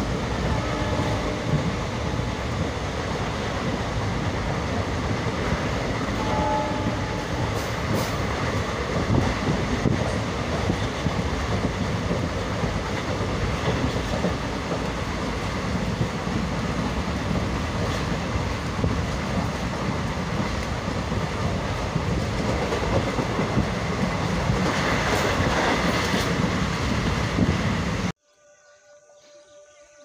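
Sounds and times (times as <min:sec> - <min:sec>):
train wheels rumbling and rattling: 0:00.0 - 0:28.1.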